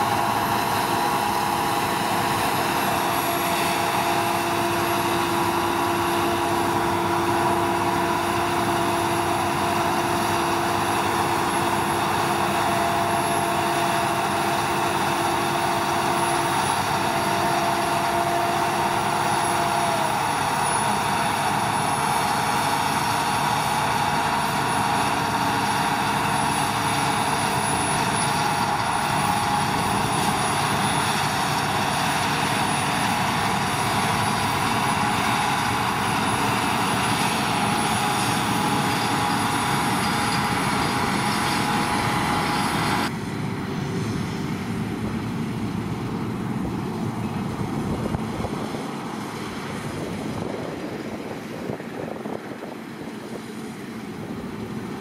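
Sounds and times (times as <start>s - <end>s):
auger whine: 0.0s - 55.0s
harvester machinery running: 0.0s - 55.0s.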